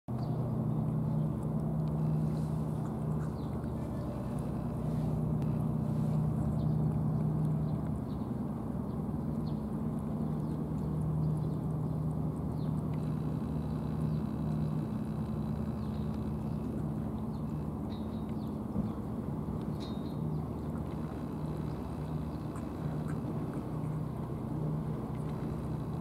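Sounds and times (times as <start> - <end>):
motor humming: 0.1 - 26.0.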